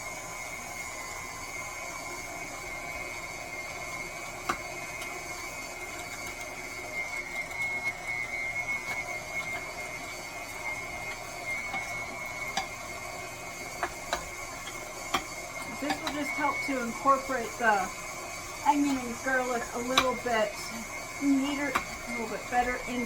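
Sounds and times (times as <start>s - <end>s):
stand mixer motor whine: 0.0s - 23.0s.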